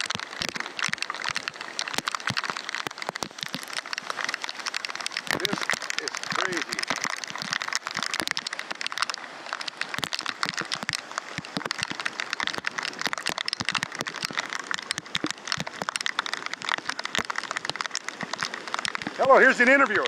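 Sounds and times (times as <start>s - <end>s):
flooded creek rushing: 0.0s - 20.0s
raindrops crackling close by: 0.0s - 20.0s
rushing hiss of rain: 0.0s - 20.0s.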